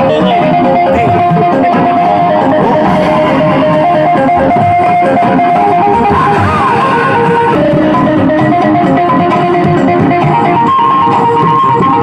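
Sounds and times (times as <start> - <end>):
loud electric guitar music: 0.0 - 12.0.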